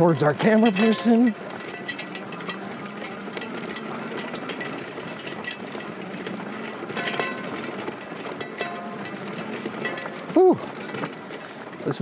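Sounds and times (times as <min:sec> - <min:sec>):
electric trike rattling over bumps: 0:00.0 - 0:12.0.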